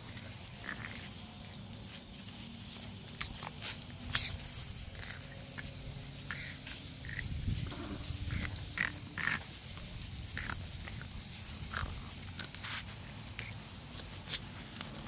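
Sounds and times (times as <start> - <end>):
puppies rustling in grass: 0.0 - 15.0.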